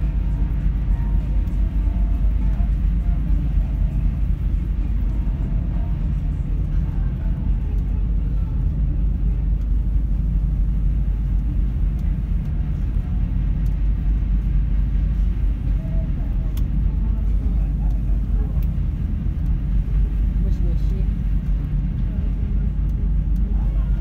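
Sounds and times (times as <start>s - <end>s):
ship engines low drone: 0.0s - 24.0s.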